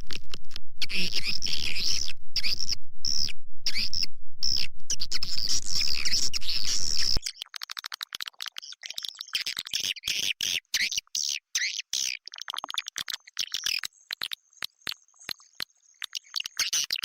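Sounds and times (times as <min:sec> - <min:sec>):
recorded bird chirps and twitters: 0:00.8 - 0:17.0.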